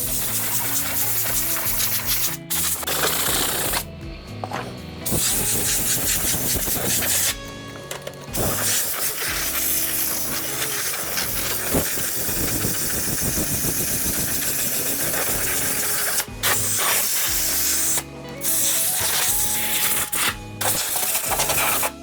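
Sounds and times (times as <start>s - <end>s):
hiss of spraying air: 0.0s - 3.9s, 5.0s - 7.4s, 8.4s - 22.0s
background music: 0.0s - 22.0s.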